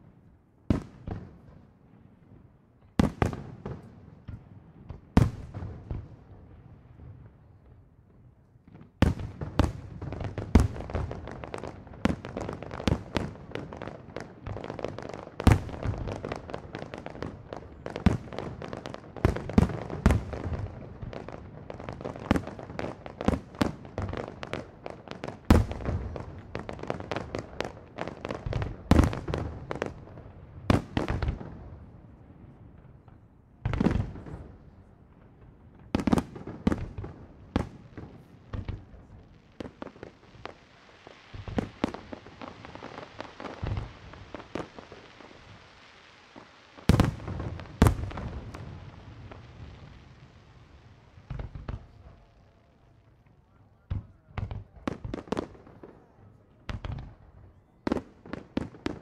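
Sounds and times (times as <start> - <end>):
fireworks bursting and crackling: 2.8 - 59.0.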